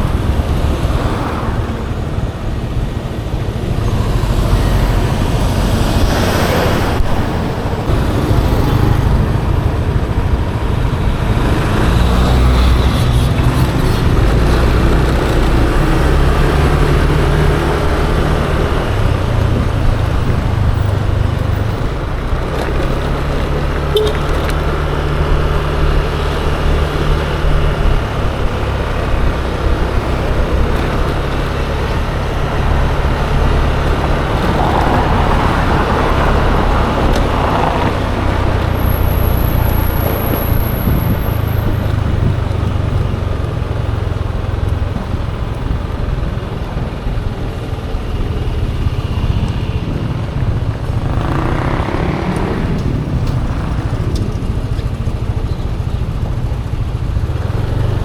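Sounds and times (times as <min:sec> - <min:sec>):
road and traffic noise: 0:00.0 - 0:58.0
scooter engine running: 0:00.0 - 0:58.0.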